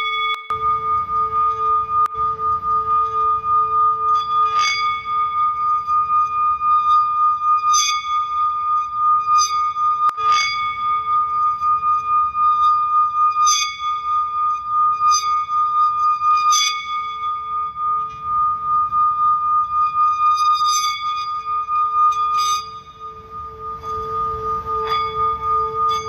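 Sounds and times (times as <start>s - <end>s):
bright struck ring: 0.0s - 26.0s
singing bowls ringing: 0.0s - 26.0s.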